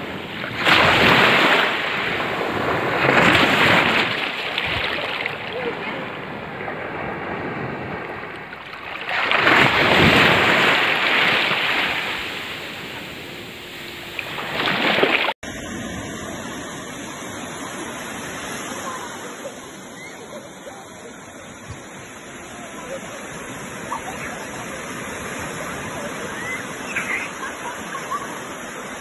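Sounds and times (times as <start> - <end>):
sea surf washing up a beach: 0.0 - 29.0
shallow water washing over sand: 0.0 - 29.0.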